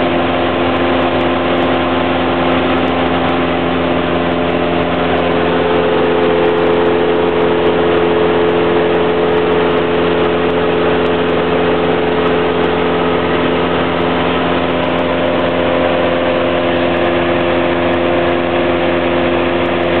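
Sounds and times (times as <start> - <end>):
aircraft engine droning: 0.0 - 20.0.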